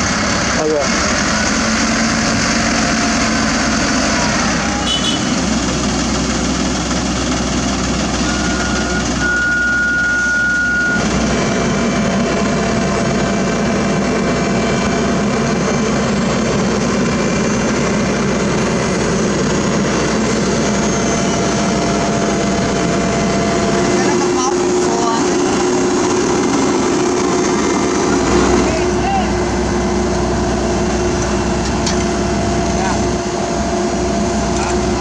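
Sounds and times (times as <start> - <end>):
diesel engines running: 0.0 - 35.0.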